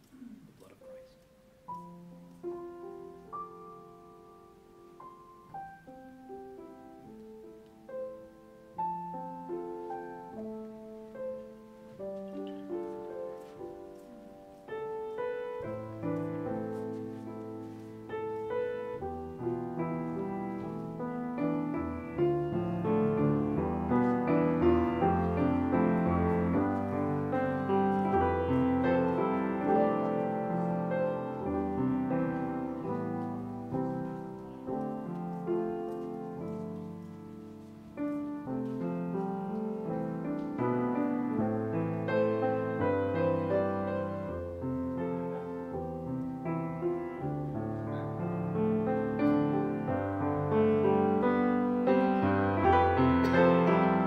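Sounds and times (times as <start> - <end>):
slow solo piano music: 0.0 - 54.0.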